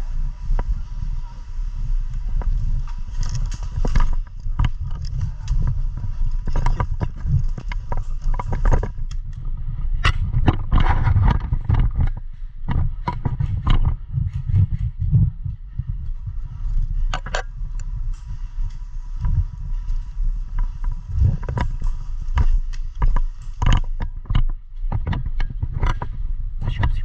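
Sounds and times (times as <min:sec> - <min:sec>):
heavy low rumble: 0:00.0 - 0:27.0
gear rattling: 0:00.2 - 0:27.0
footsteps: 0:00.4 - 0:27.0.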